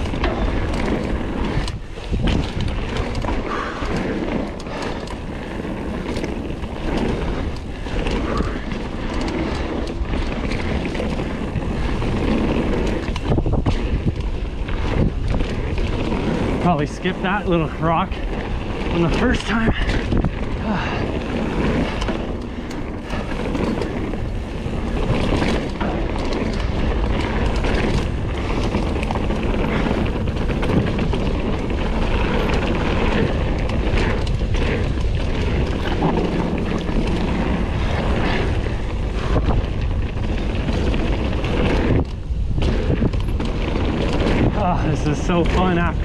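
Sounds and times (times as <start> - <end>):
bike clattering and knocking: 0.0 - 46.0
tyres rumbling on dirt: 0.0 - 46.0
wind rushing over microphone: 0.0 - 46.0.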